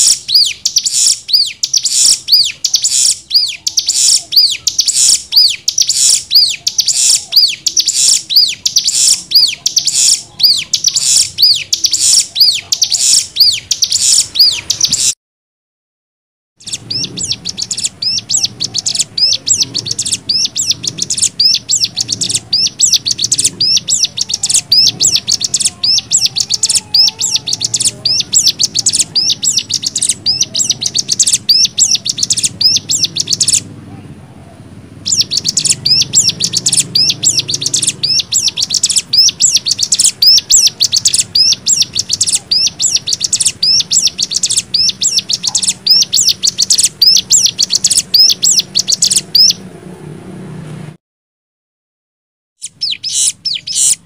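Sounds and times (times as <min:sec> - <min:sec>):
bird chattering song: 0:00.0 - 0:15.2, 0:16.6 - 0:33.7, 0:35.0 - 0:49.6, 0:52.6 - 0:54.0.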